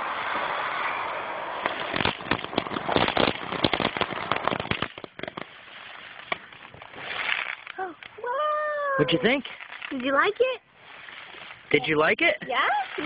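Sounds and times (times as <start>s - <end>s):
firework crackling pops: 0.0s - 13.0s
firework hissing: 0.0s - 13.0s.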